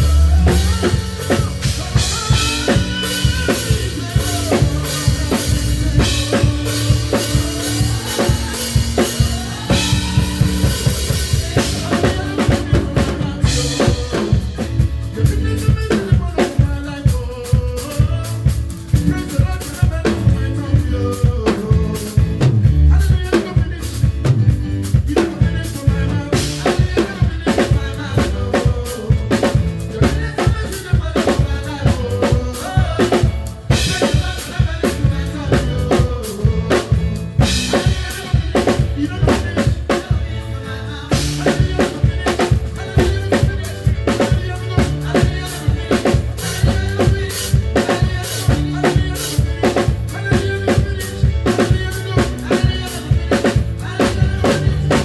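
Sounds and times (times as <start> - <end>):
drum kit groove: 0.0 - 55.0
live band music: 0.0 - 55.0.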